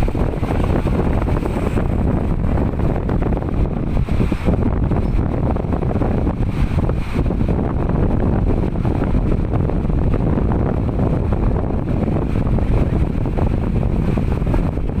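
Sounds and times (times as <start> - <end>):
farm baler rumbling and rattling: 0.0 - 15.0.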